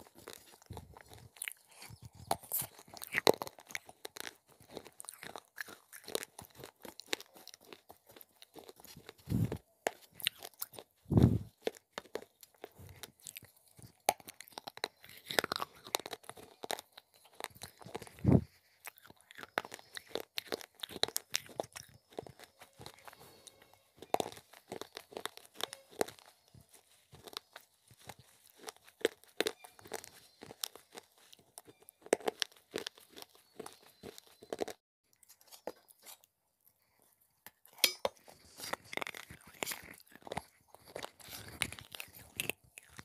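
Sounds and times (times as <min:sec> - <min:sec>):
crunching and chewing in mouth: 0:00.0 - 0:43.0.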